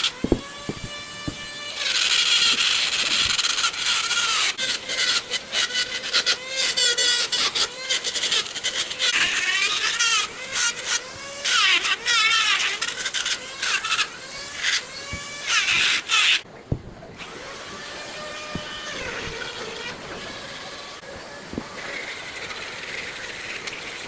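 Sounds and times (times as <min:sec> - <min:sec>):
power tool squealing whine: 0:00.0 - 0:16.5, 0:17.2 - 0:24.0
rough grinding on wood: 0:00.0 - 0:24.0.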